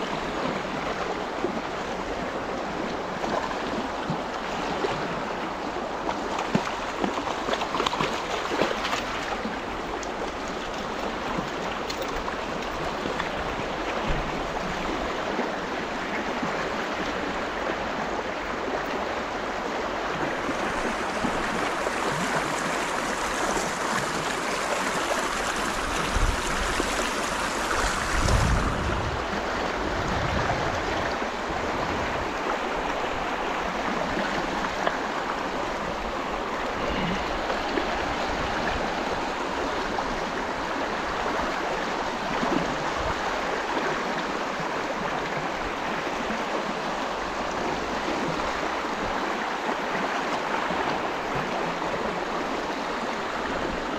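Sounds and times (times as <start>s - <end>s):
river rushing over stones: 0.0s - 53.9s.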